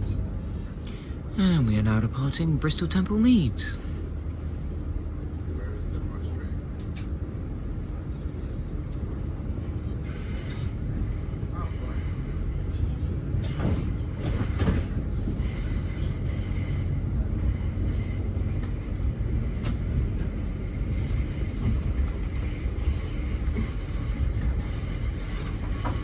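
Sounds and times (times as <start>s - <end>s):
train wheels rumbling on rail: 2.6s - 26.0s.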